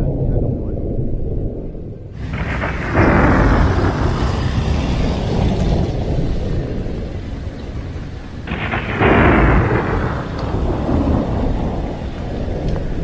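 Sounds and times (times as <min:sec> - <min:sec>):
thunder rumble: 0:00.0 - 0:13.0
sudden rush of noise: 0:01.5 - 0:12.1
rain: 0:02.1 - 0:13.0.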